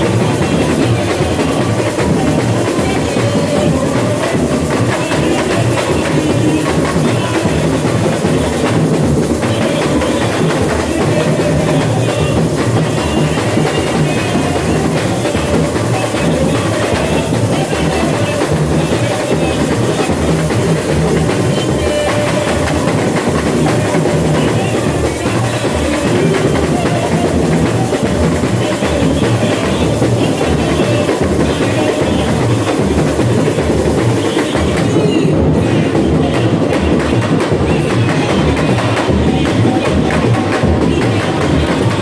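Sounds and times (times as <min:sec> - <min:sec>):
samba drum corps playing: 0:00.0 - 0:42.0.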